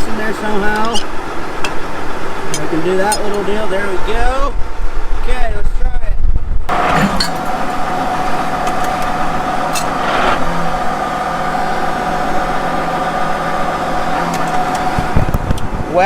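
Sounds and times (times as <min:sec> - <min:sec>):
tractor engine running: 0:00.0 - 0:05.2, 0:06.7 - 0:16.0
steady whine: 0:00.0 - 0:16.0.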